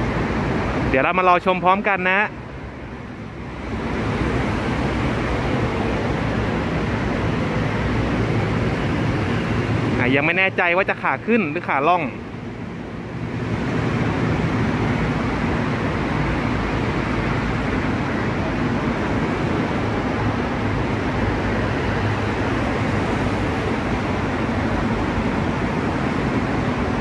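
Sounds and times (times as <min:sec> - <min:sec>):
road traffic with engine hum: 0:00.0 - 0:27.0.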